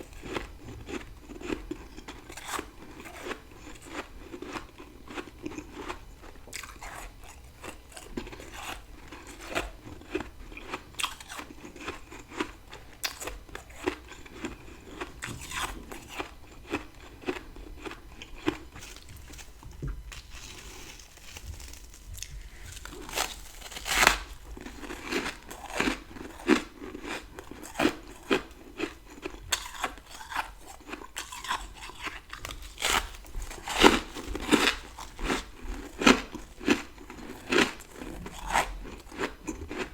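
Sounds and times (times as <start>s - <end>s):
crunchy chewing of frost: 0.0s - 39.9s.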